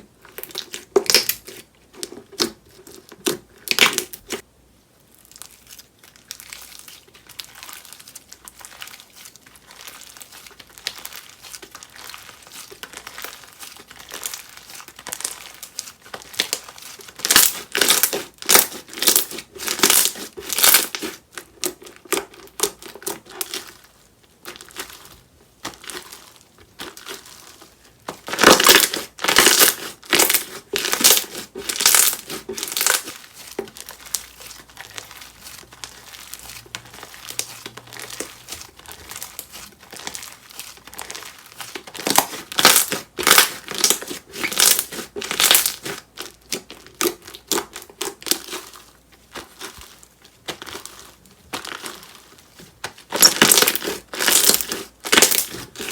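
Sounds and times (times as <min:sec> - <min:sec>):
slime squishing: 0:00.0 - 0:04.4, 0:05.0 - 0:55.9.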